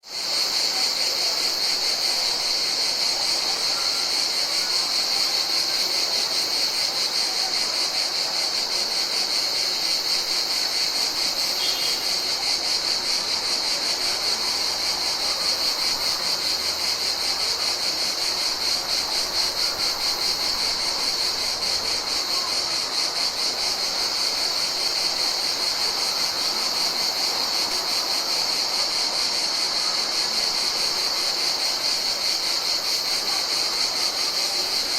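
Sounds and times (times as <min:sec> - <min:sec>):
insects trilling in chorus: 0:00.0 - 0:34.9.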